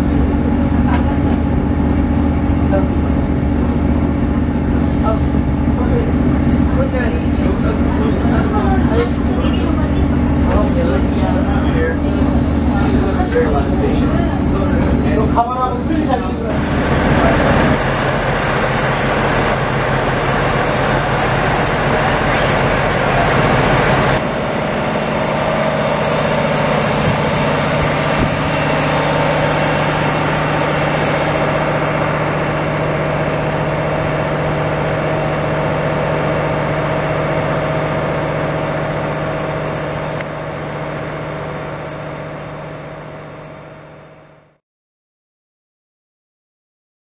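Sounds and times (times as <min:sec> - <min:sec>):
train engine idling: 0:00.0 - 0:44.2.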